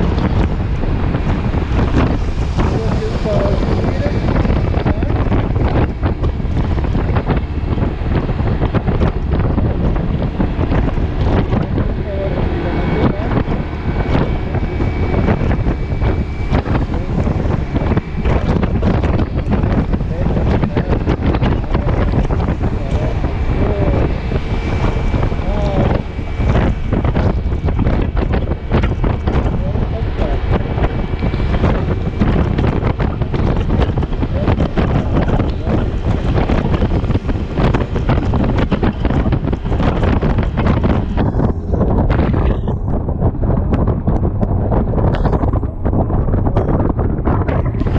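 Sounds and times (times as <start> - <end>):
raindrops tapping microphone: 0.0 - 47.9
wind buffeting microphone: 0.0 - 47.9.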